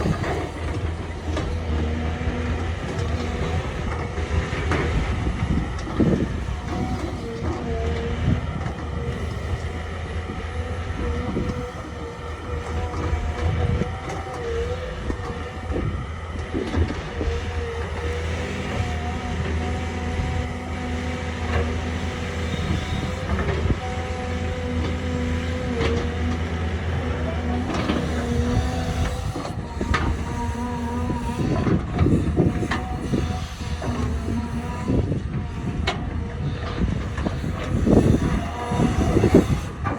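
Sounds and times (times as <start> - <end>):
diesel engine running: 0.0 - 39.9
wavering hydraulic whine: 0.0 - 39.9.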